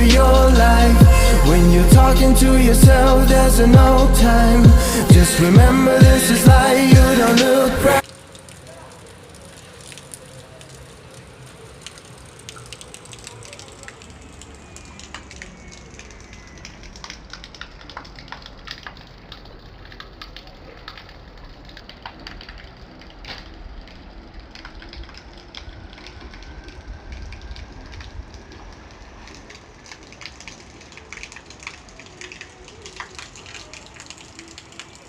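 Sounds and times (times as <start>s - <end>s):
raindrops ticking close by: 0.0s - 35.0s
steady rain falling: 0.0s - 35.0s.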